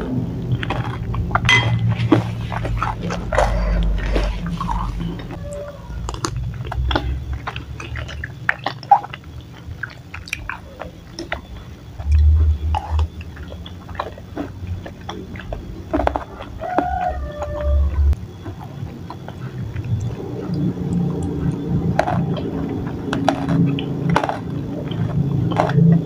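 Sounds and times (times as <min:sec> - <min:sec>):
close-up chewing: 0:00.0 - 0:26.0.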